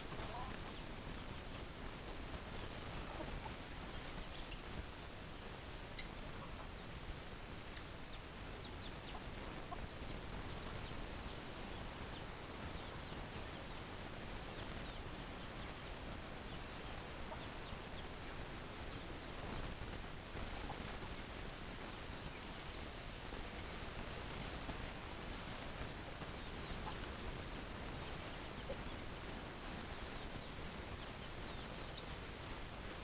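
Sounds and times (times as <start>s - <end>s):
chickens clucking faintly: 0.0s - 33.0s
steady background hiss: 0.0s - 33.0s.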